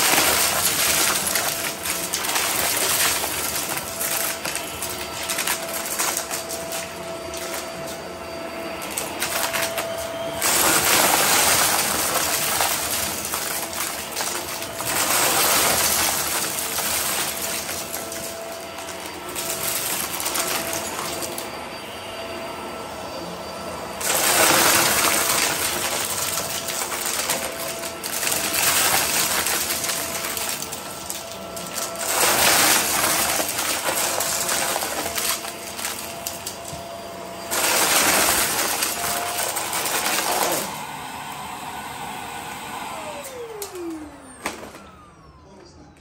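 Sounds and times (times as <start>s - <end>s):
vacuum sucking up crunchy debris: 0.0s - 21.6s, 24.0s - 45.3s
upright vacuum running on carpet: 0.0s - 46.0s.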